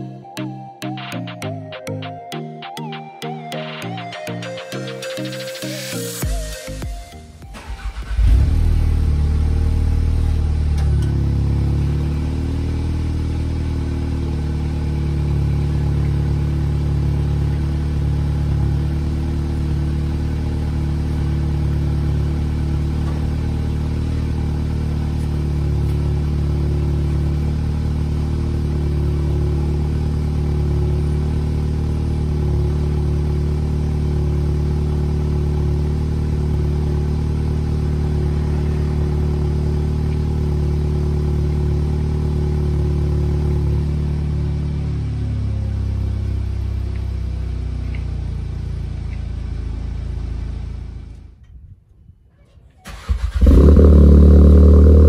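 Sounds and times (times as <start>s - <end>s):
car engine starting and idling: 0.0s - 51.8s, 52.7s - 55.0s.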